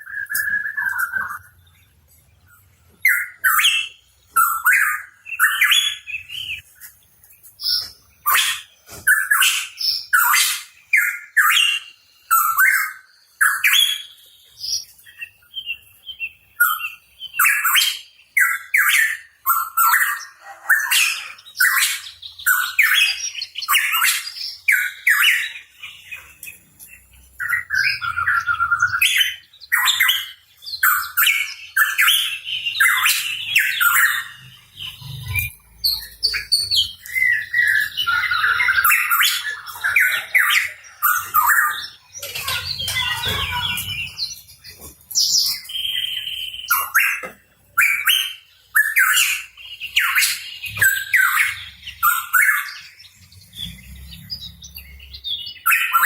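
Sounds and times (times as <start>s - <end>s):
bird singing whistles and chatter: 0.0s - 1.6s, 3.0s - 6.6s, 7.6s - 56.0s.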